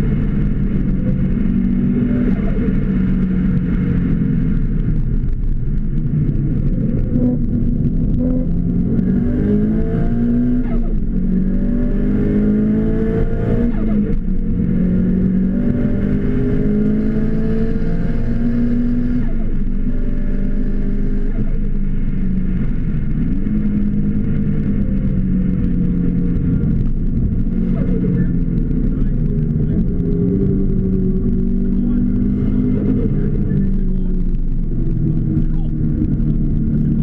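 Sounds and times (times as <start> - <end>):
car engine accelerating hard: 0.0 - 37.0.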